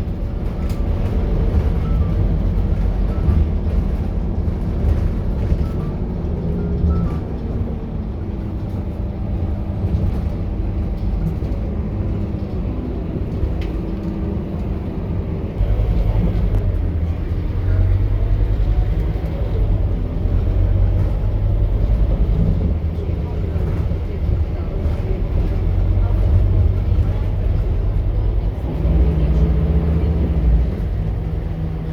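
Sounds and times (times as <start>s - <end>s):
bus engine deep rumble: 0.0s - 31.9s.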